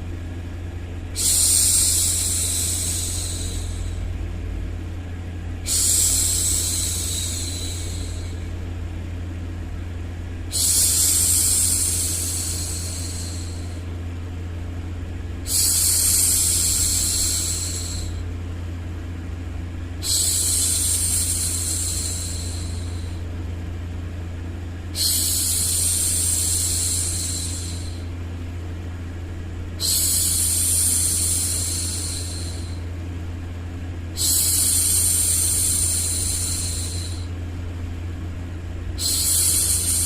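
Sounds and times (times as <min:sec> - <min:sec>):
low white-noise hum: 0:00.0 - 0:40.0.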